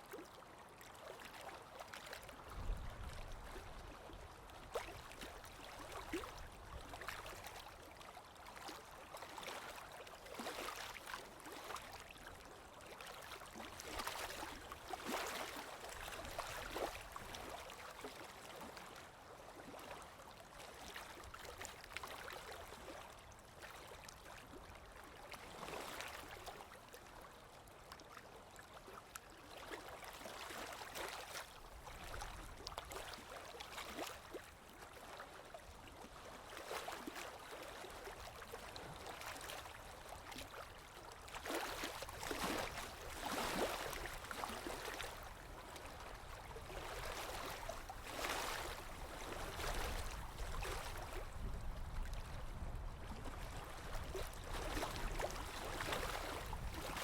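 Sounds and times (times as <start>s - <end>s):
small waves lapping and splashing: 0.0s - 57.0s.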